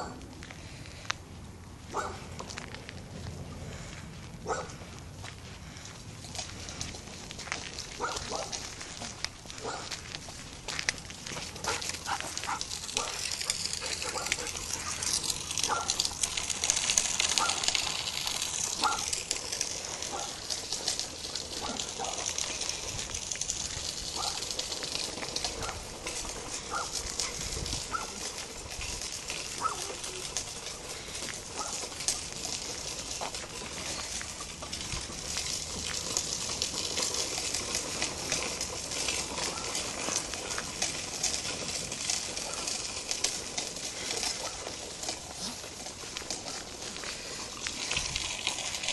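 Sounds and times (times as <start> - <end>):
footsteps outdoors: 0.0 - 48.9.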